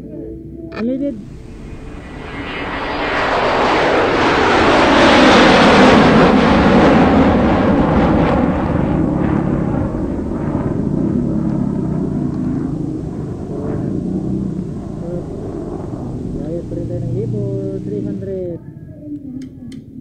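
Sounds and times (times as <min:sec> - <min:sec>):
motorcycle engine hum: 0:01.0 - 0:19.7
wind rush on motorcycle: 0:01.4 - 0:18.3.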